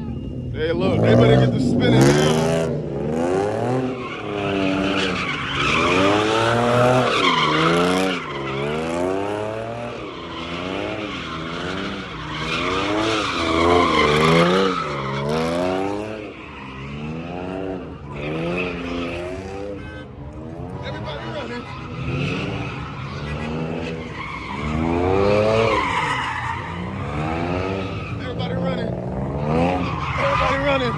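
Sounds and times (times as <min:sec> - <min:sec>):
car engine revving: 0:00.0 - 0:30.9
tires squealing and skidding: 0:00.0 - 0:30.9.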